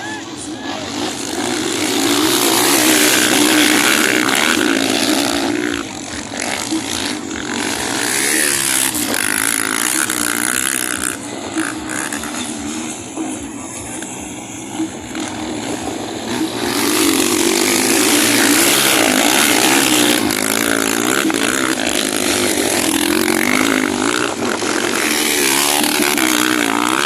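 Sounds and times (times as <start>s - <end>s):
motocross motorcycles revving: 0.0s - 27.0s.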